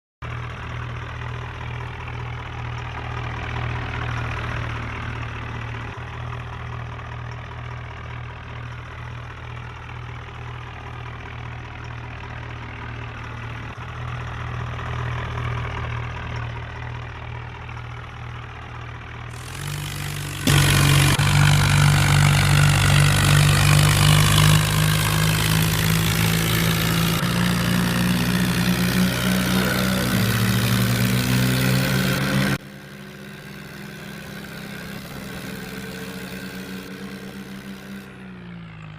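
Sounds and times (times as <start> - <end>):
tractor diesel engine running: 0.2 - 38.9.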